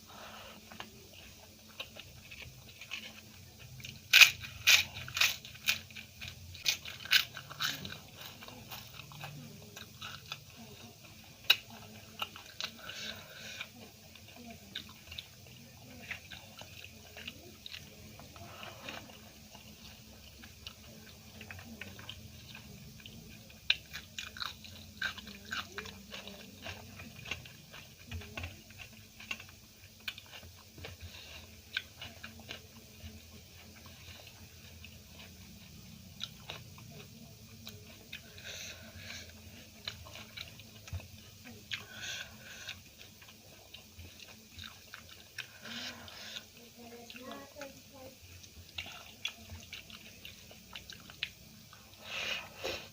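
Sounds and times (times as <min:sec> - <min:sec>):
chewing crunchy food: 0:00.0 - 0:52.9.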